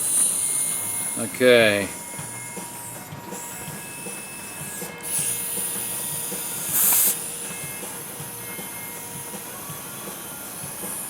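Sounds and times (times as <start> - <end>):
steam hissing through valve: 0.0 - 11.0.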